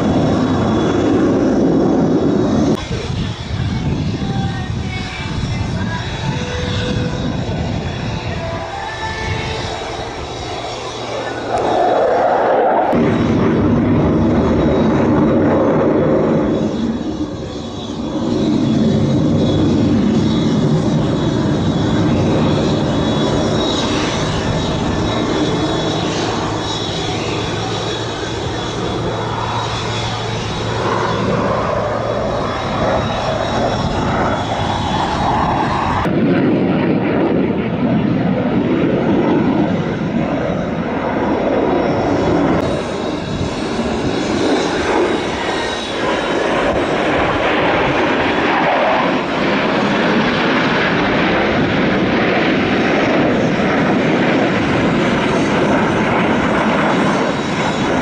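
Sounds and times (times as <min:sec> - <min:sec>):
fighter jets roaring overhead: 0:00.0 - 0:58.0.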